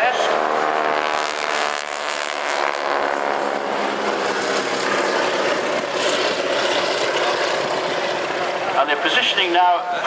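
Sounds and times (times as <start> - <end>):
biplane engines droning: 0.0 - 10.0.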